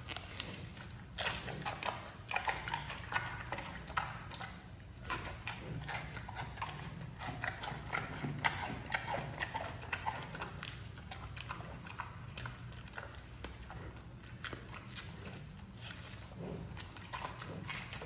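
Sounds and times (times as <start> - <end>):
panda crunching bamboo: 0.0 - 18.0.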